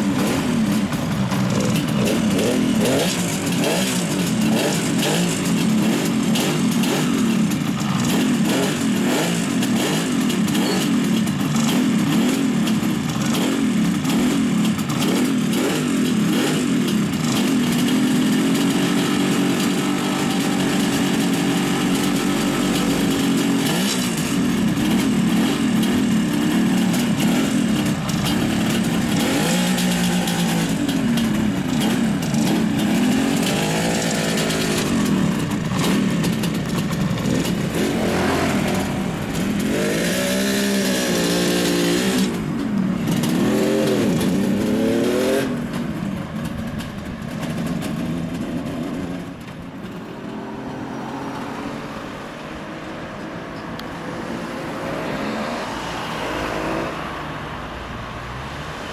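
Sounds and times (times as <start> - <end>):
motorcycle engine revving: 0.0 - 57.4
street traffic: 0.0 - 58.9.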